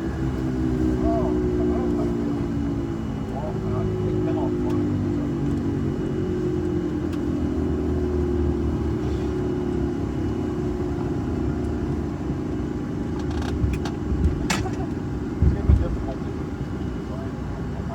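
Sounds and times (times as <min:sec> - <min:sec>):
jet engine cabin rumble: 0:00.0 - 0:17.9.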